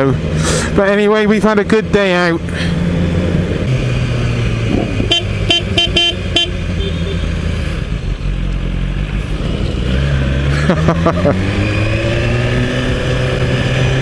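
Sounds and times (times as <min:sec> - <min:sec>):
motorcycle engine running: 0:00.8 - 0:13.3.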